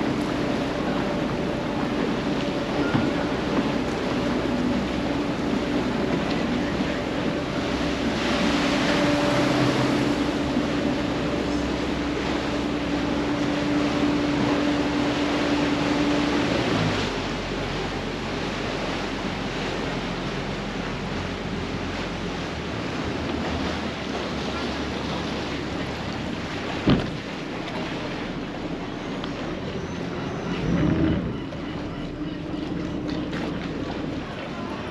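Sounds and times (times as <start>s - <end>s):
boat engine hum: 0.0s - 34.9s
water rushing past hull: 0.0s - 34.9s.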